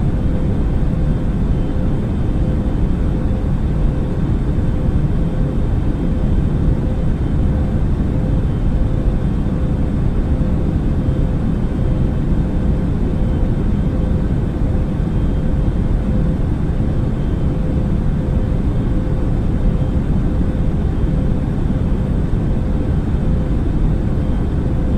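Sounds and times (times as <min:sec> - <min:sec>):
faint hum: 0:00.0 - 0:24.9
jet engine rumble: 0:00.0 - 0:24.9.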